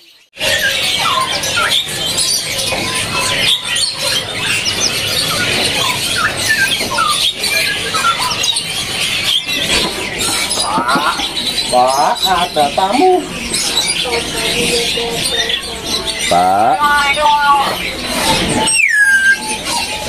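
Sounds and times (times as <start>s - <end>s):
songbirds chirping and whistling: 0.0s - 20.0s.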